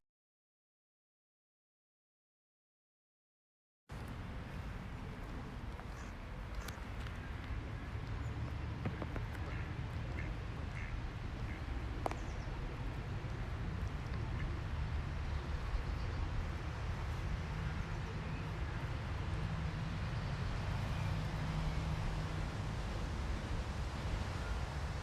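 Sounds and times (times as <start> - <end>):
low rumbling noise: 3.9 - 25.0.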